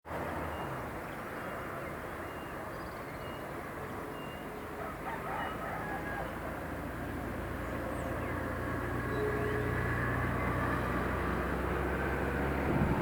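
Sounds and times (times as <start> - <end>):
distant traffic hum: 0.1 - 13.0.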